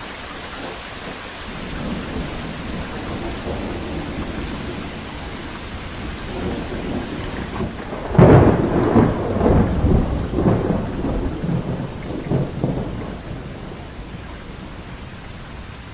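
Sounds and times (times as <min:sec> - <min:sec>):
rolling thunder: 0:00.0 - 0:15.9
steady rainfall: 0:00.0 - 0:15.9.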